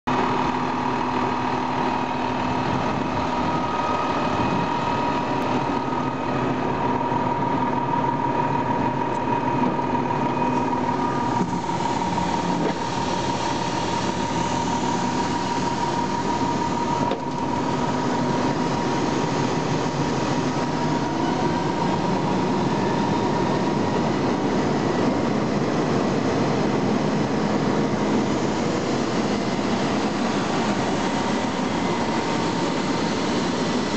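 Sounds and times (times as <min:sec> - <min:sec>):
truck machinery with steady whine: 0:00.1 - 0:33.9.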